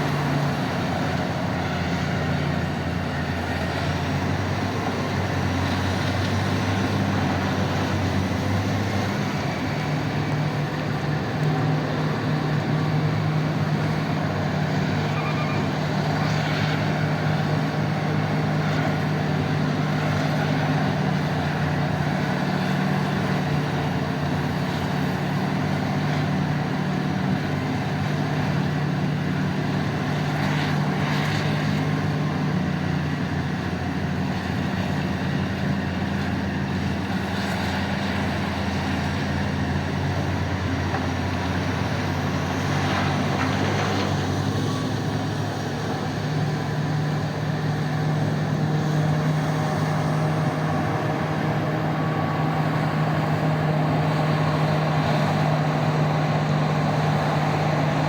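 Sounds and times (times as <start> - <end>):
diesel machinery running: 0.0 - 58.0.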